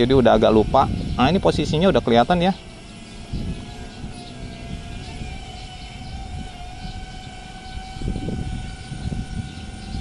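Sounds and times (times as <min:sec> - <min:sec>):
drone propellers humming: 0:00.0 - 0:10.0
wind buffeting microphone: 0:00.0 - 0:10.0.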